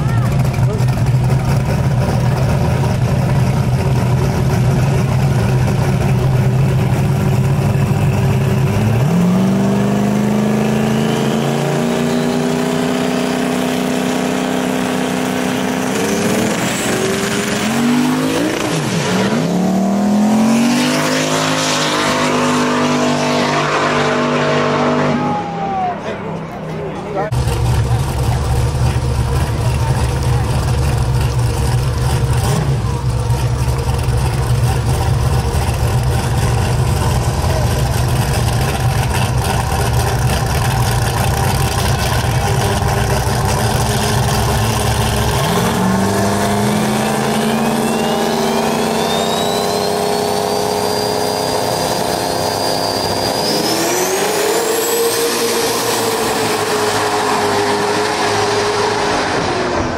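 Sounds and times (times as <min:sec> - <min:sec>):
car engines rumbling and accelerating: 0:00.0 - 0:59.9
thin engine whine: 0:00.4 - 0:59.9.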